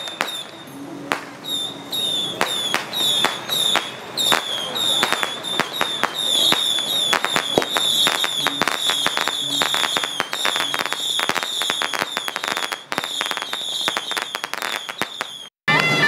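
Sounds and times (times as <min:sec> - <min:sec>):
firecrackers popping: 0:00.0 - 0:16.0
shrill wind instrument: 0:00.0 - 0:16.0.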